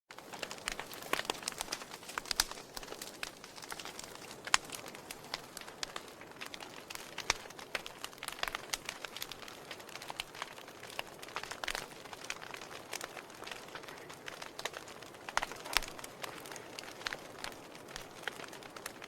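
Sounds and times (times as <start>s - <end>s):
soft fire hiss: 0.1s - 19.0s
wood fire crackling and popping: 0.1s - 19.0s.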